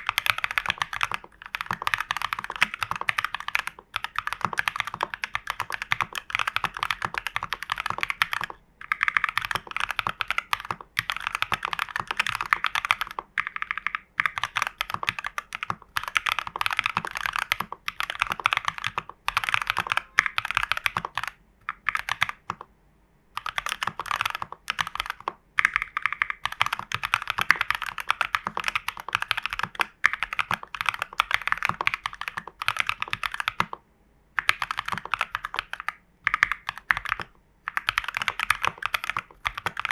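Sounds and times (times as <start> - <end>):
typing on mechanical keyboard: 0.0 - 22.7, 23.4 - 33.8, 34.4 - 39.9.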